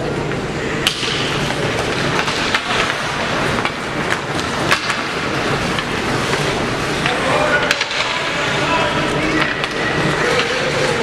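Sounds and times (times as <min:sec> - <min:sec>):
rink crowd noise: 0:00.0 - 0:11.0
hockey sticks and puck clacking: 0:00.3 - 0:11.0.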